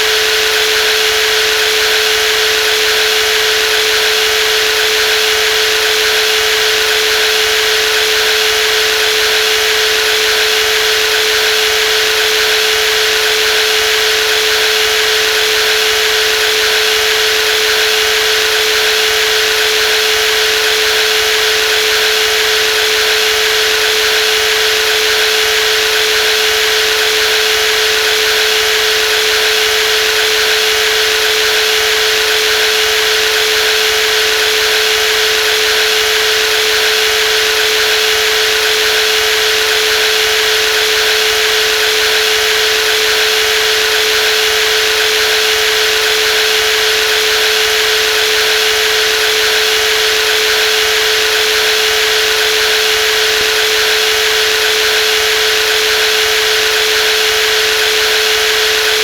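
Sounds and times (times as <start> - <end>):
jigsaw running: 0.0 - 59.0.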